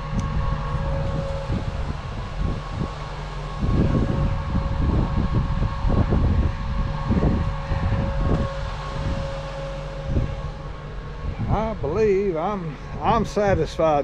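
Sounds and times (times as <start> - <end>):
diesel engine idling: 0.0 - 14.0
steady engine whine: 0.0 - 14.0
uneven low rumbling: 0.0 - 14.0.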